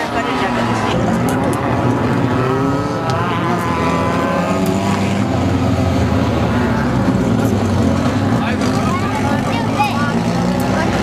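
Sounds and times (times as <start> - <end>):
race vehicle engine revving: 0.0 - 11.0.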